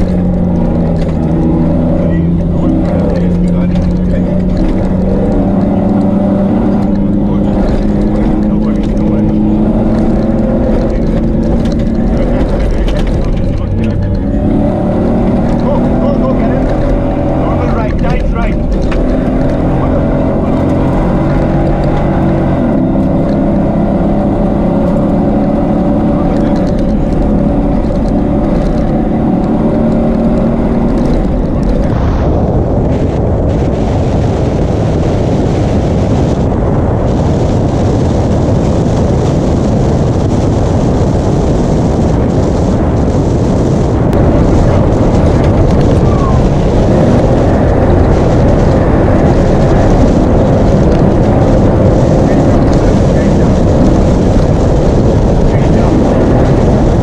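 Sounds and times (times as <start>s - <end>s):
truck engine running hard: 0.0s - 57.0s
wind and tyres over sand: 0.0s - 57.0s.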